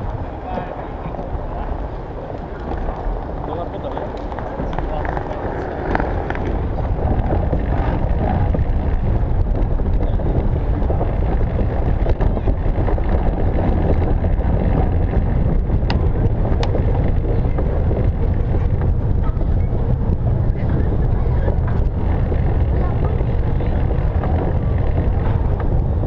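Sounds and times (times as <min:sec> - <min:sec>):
tyres rumbling on pavement: 0:00.0 - 0:26.0.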